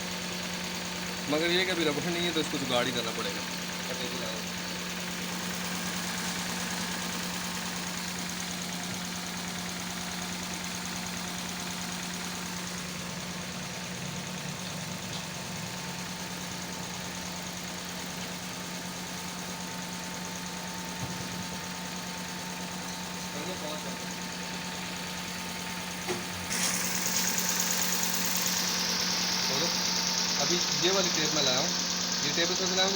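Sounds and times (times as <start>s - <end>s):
car engine idling with misfire: 0.0s - 32.9s.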